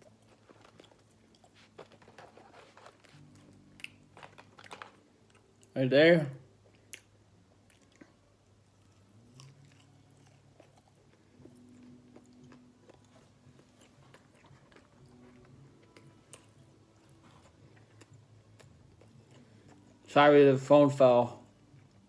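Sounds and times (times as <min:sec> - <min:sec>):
chewing and biting food: 0:00.0 - 0:05.7, 0:06.6 - 0:20.1
low steady hum: 0:00.0 - 0:22.0.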